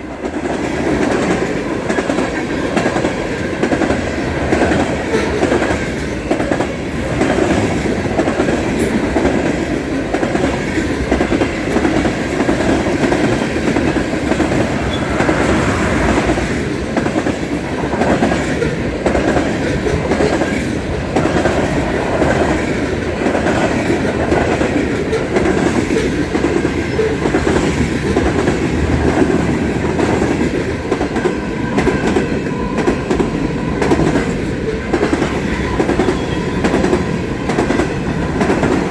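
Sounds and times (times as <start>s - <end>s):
train wheels clacking over rail joints: 0.2s - 38.9s.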